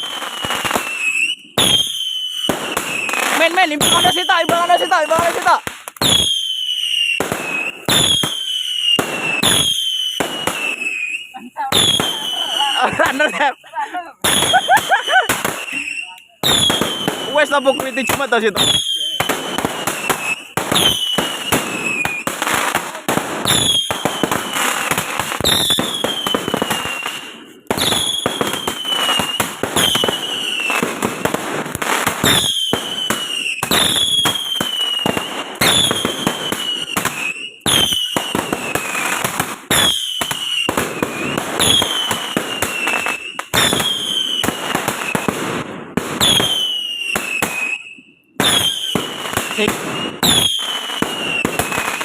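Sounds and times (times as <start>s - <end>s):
fireworks falling whistle: 0.0s - 31.4s, 32.0s - 52.0s
fireworks crackling bangs: 0.0s - 52.0s.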